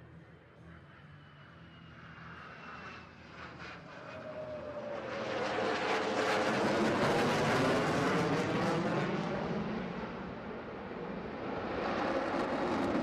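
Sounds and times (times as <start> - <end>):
jet engine whine: 0.0 - 13.0
jet engines roaring: 1.8 - 13.0.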